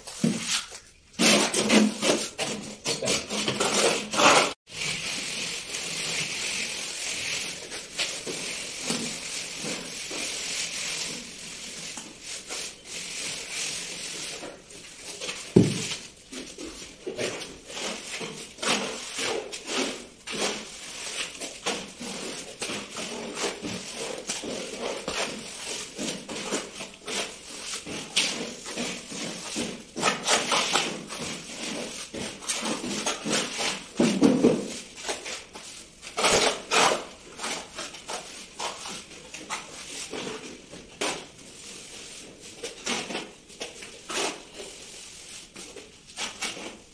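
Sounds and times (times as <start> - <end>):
trowel scraping wet plaster: 0.0 - 46.9.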